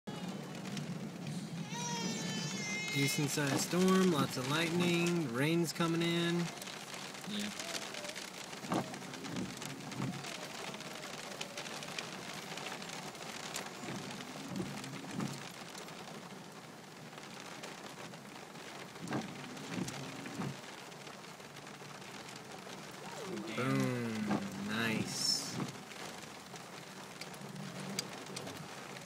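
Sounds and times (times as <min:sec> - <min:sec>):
rain on car windshield: 0:00.1 - 0:29.0
windshield wipers sweeping: 0:00.1 - 0:29.0.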